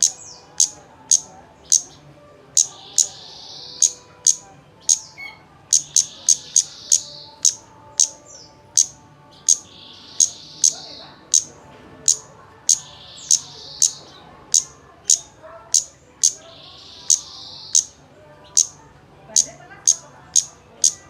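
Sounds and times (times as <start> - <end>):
sharp high bird chips: 0.0 - 18.8
buzzy bird trill: 0.0 - 21.0.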